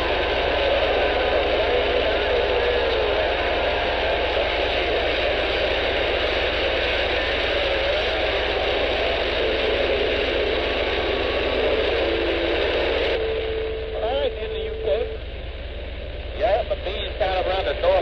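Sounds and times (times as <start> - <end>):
faint wavering whistles: 0.0 - 17.1
radio static hiss: 0.0 - 18.0.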